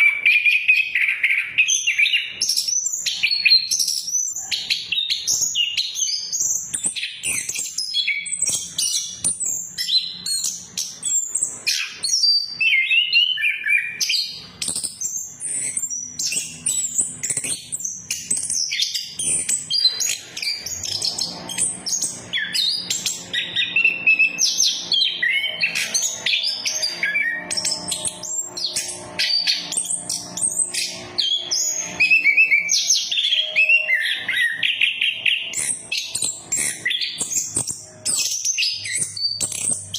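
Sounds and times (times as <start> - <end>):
thrush singing chirps and whistles: 0.0 - 39.9.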